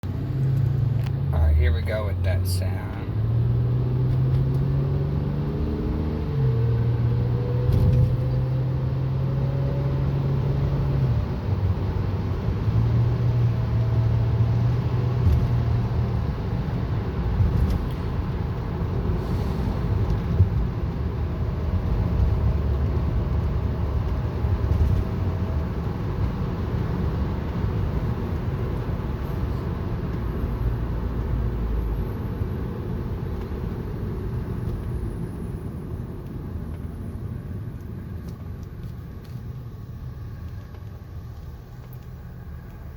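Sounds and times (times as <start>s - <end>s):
engine and road rumble: 0.0s - 42.9s.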